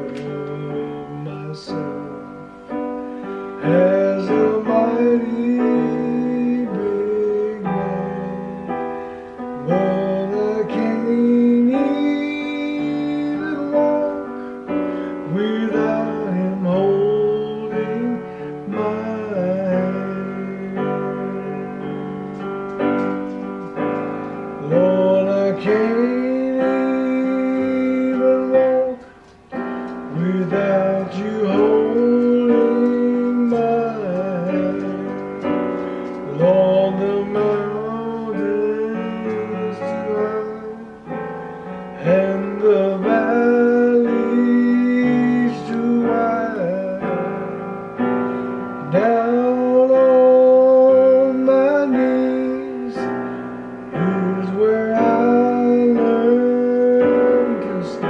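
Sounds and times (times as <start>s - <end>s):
electronic keyboard piano: 0.0s - 58.0s
man singing gospel song: 0.0s - 58.0s.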